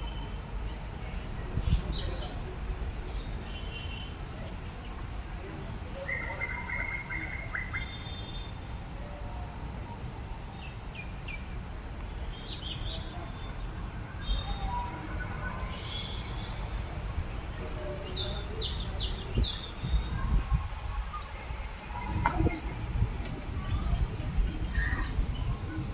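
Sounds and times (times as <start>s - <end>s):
high-pitched insect drone: 0.0s - 25.9s.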